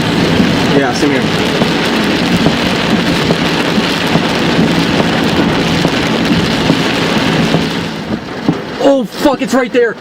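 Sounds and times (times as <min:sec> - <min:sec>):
heavy rain on a vehicle: 0:00.0 - 0:10.0.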